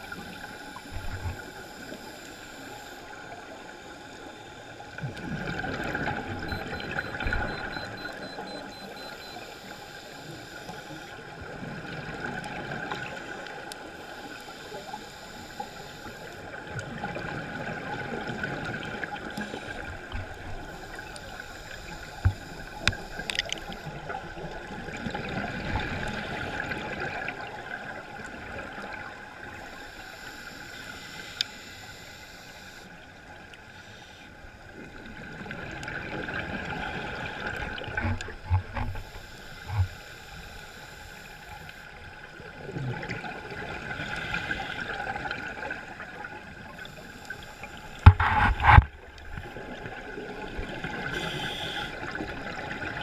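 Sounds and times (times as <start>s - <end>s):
underwater bubbles gurgling: 0.0s - 31.2s, 34.4s - 53.0s.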